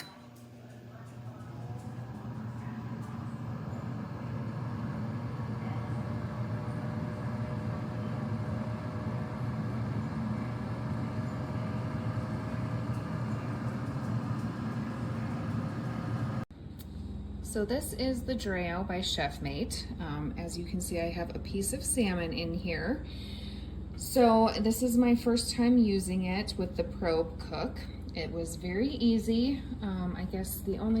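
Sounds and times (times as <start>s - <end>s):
air fryer fan and motor hum: 0.0s - 31.0s.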